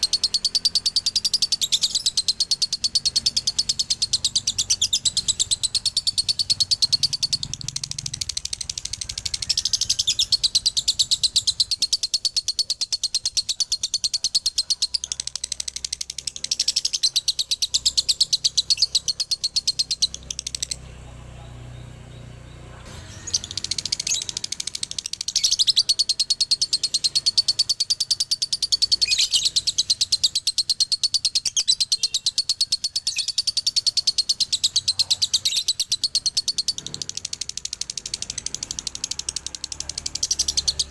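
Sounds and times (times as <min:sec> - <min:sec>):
lovebird chattering trill: 0:00.0 - 0:21.0, 0:21.6 - 0:40.9.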